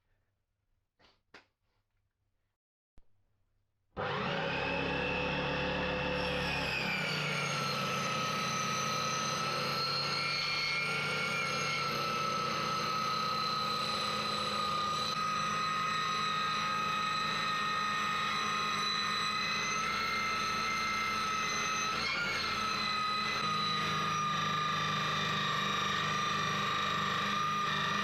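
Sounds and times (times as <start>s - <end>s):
table saw motor whine: 4.0s - 28.0s.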